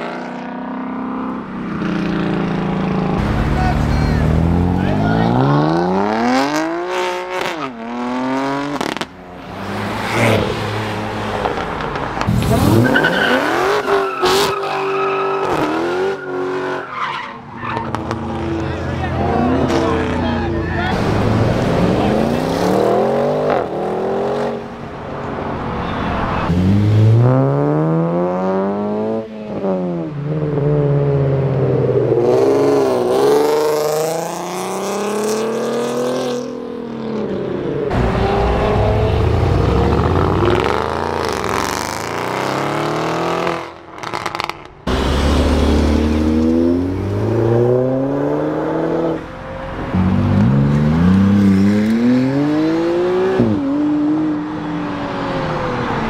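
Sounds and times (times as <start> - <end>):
car engines revving through gears: 0.0 - 56.0.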